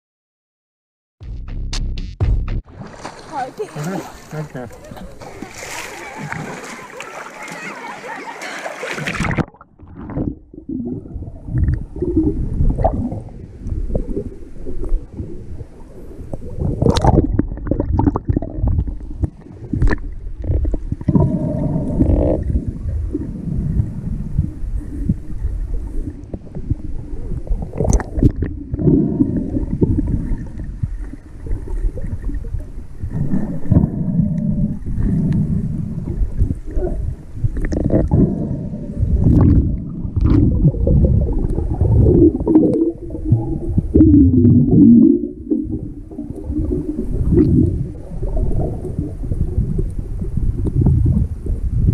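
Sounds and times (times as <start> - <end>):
swimming strokes underwater: 2.7 - 51.9
water splashing: 2.7 - 51.9
muffled underwater gurgling: 3.3 - 51.9.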